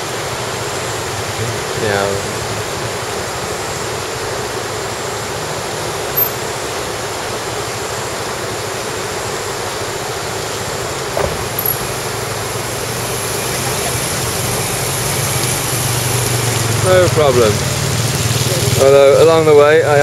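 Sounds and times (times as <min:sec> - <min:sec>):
fast-flowing river rushing: 0:00.0 - 0:20.0.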